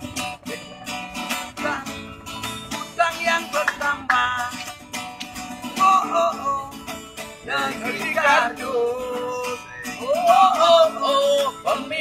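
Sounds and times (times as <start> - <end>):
acoustic guitar: 0.0 - 12.0
man singing: 0.4 - 2.1, 2.8 - 4.7, 5.6 - 12.0.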